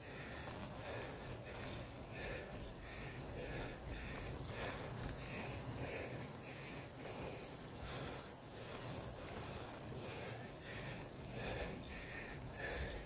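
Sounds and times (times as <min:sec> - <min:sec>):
cyclist breathing hard: 0:00.0 - 0:13.0.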